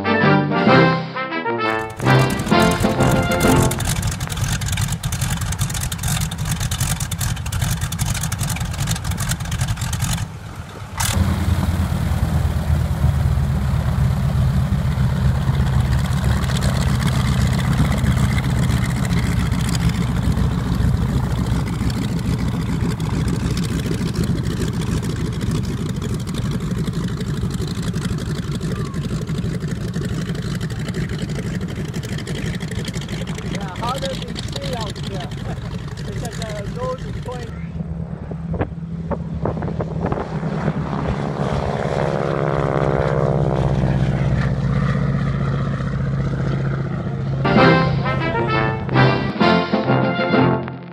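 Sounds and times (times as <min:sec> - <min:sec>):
aircraft radial engine running: 0:00.0 - 0:50.9.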